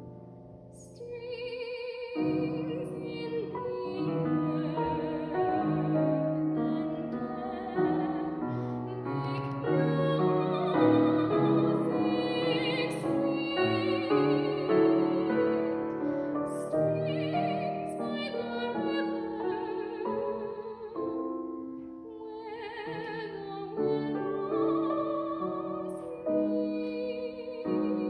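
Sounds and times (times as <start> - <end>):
piano accompaniment: 0.0 - 28.0
woman singing classical song: 0.0 - 28.0.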